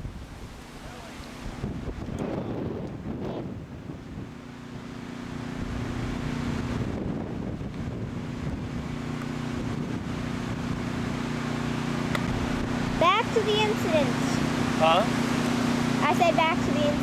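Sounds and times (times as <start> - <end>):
steady motor hum: 0.0 - 17.0
wind buffeting microphone: 0.0 - 17.0.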